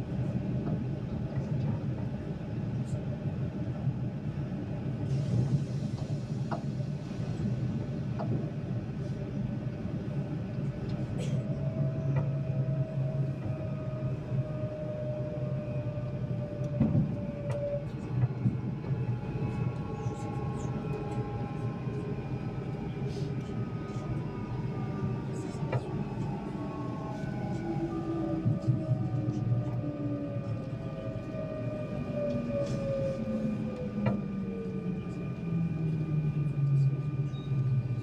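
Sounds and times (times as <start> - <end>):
bus engine and road rumble: 0.0 - 38.0.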